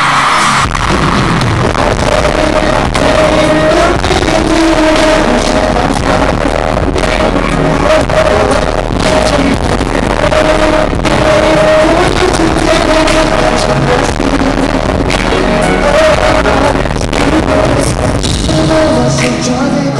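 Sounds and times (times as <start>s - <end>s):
loud pop concert music: 0.0s - 19.9s.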